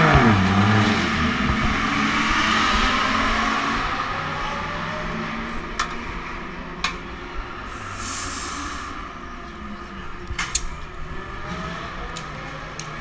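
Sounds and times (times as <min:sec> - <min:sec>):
race car engine passing: 0:00.0 - 0:10.1, 0:10.8 - 0:13.0.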